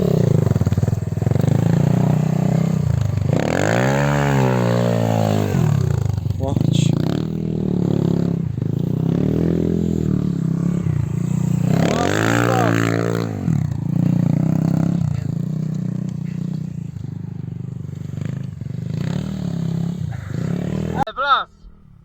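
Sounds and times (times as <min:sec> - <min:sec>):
dirt bike engine revving: 0:00.0 - 0:21.2.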